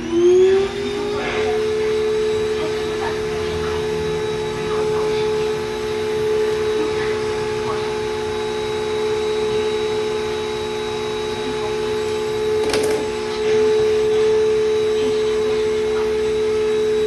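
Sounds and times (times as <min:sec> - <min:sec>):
hair clipper droning: 0:00.0 - 0:17.0.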